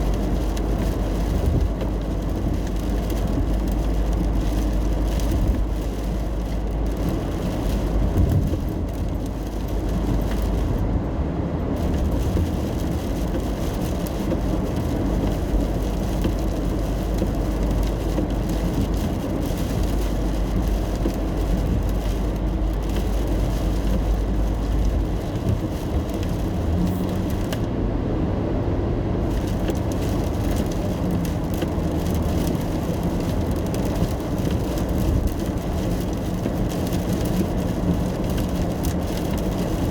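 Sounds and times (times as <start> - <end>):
rain and tyre spray hiss: 0.0 - 27.8, 28.7 - 39.9
road and engine rumble: 0.0 - 39.9.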